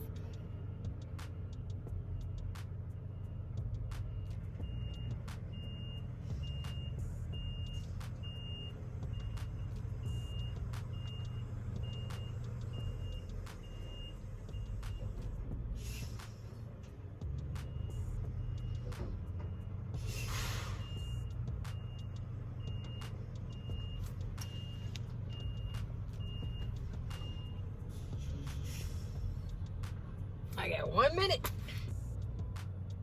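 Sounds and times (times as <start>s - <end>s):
truck backup alarm beeping: 0.0s - 31.5s
diesel truck engine idling: 0.0s - 33.0s.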